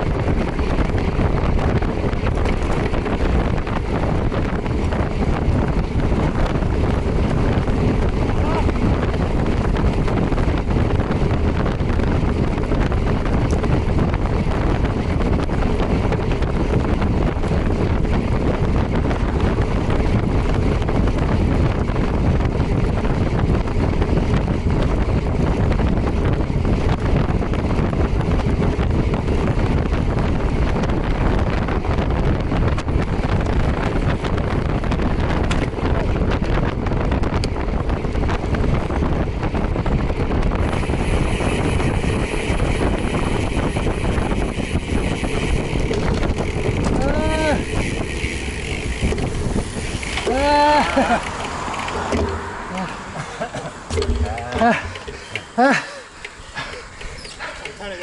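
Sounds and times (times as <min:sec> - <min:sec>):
wind rushing on microphone: 0:00.0 - 0:58.0.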